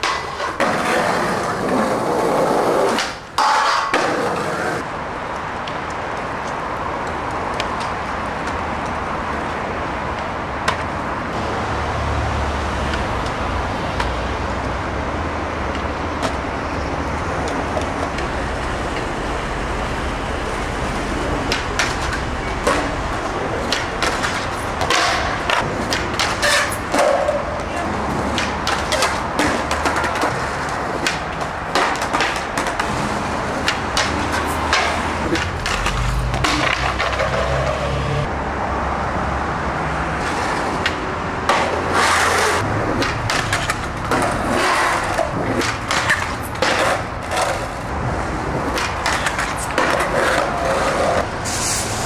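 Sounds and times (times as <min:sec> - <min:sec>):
skateboard clacks: 0:00.0 - 0:11.4, 0:15.6 - 0:16.6, 0:17.3 - 0:19.3, 0:20.5 - 0:37.9, 0:40.2 - 0:51.3
skateboard wheels rolling and grinding: 0:00.0 - 0:52.0
traffic noise: 0:00.0 - 0:52.0.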